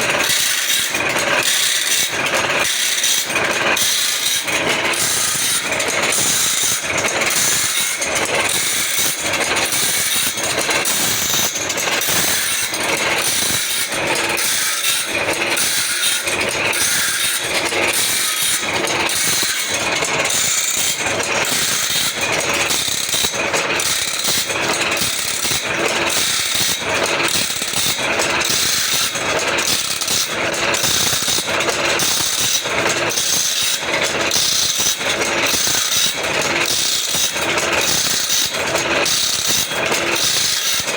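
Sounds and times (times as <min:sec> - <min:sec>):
saw blade sharpening machine: 0:00.0 - 0:40.9.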